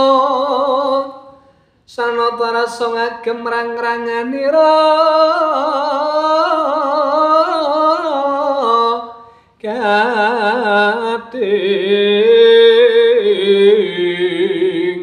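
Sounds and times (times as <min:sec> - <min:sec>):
man singing with vibrato: 0:00.0 - 0:15.0.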